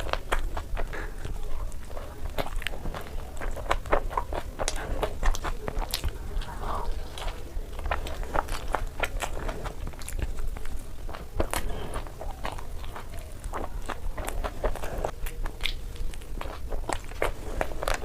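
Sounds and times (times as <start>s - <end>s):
wet chewing of noodles: 0.0s - 18.0s.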